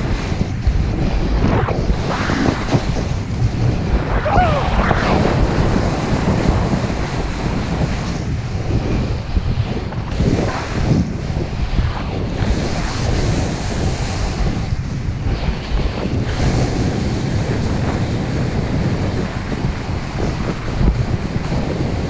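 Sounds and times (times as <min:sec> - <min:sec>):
snowboard scraping over snow: 0:00.0 - 0:22.0
wind buffeting microphone: 0:00.0 - 0:22.0.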